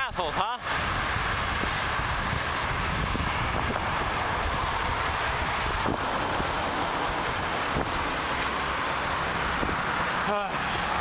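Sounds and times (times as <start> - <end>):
road traffic: 0.0 - 11.0
wind rushing on microphone: 0.0 - 11.0.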